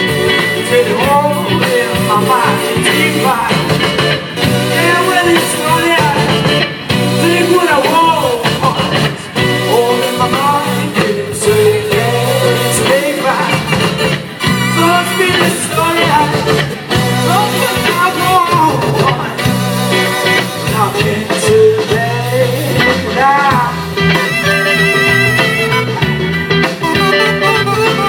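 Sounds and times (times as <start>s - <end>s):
man singing: 0.0s - 25.9s
rhythmic bass line: 0.0s - 28.0s
rock band playing: 0.0s - 28.0s.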